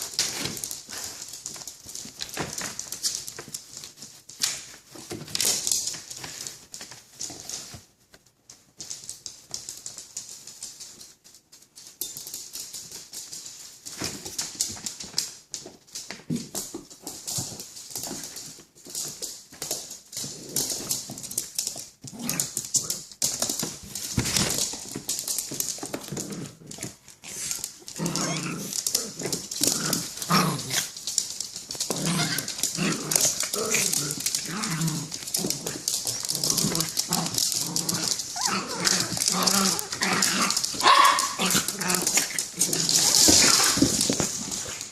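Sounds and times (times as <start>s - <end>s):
scratchy hiss with clicks: 0.0s - 44.9s.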